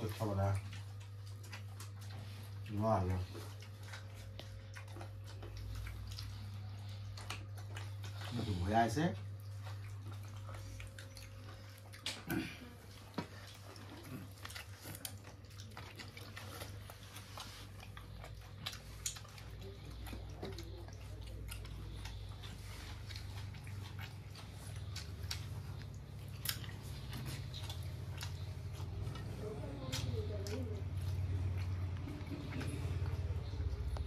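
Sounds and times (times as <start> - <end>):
people chewing: 0.0 - 34.0
steady low hum: 0.0 - 34.0.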